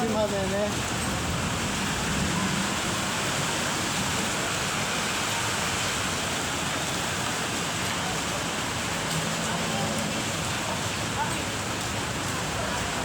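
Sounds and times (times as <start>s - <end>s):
heavy rain on street: 0.0s - 13.0s.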